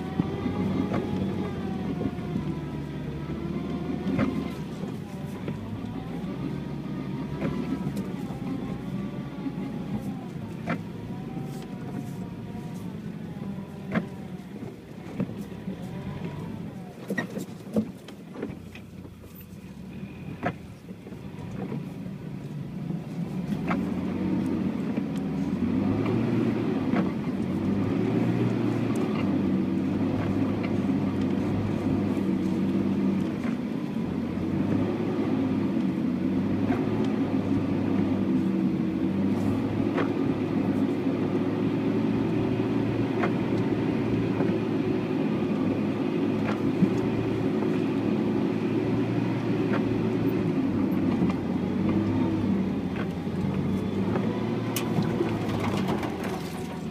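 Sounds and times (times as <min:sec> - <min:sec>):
car engine pulling under load: 0:00.0 - 0:56.9.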